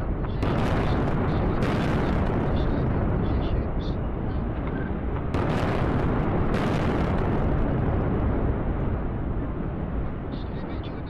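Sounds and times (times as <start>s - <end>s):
deep continuous rumble: 0.0s - 11.0s.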